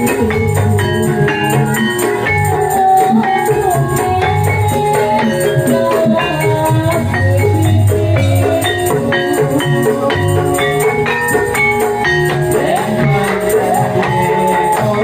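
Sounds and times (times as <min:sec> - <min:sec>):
drums and bass: 0:00.0 - 0:15.0
high jingling beat: 0:00.0 - 0:15.0.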